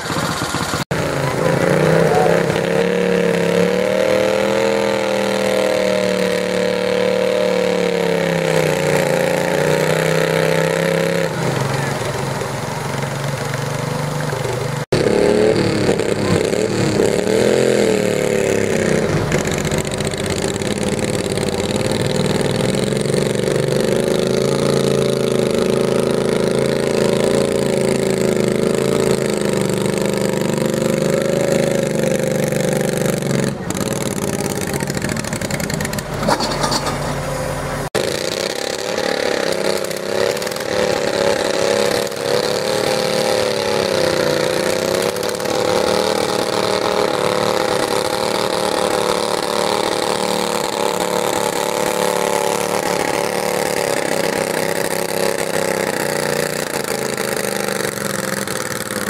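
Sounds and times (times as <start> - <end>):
tractor engine at high revs: 0.0 - 59.0.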